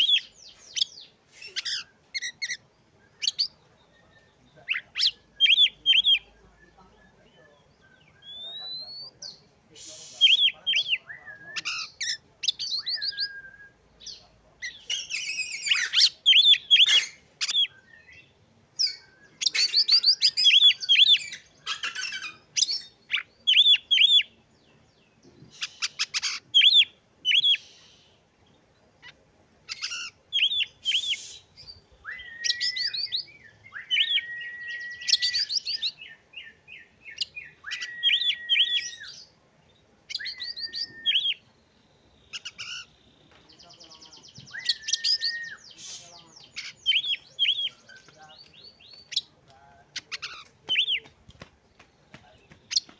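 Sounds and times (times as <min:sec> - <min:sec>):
songbird singing chirps and whistles: 0:00.0 - 0:52.9.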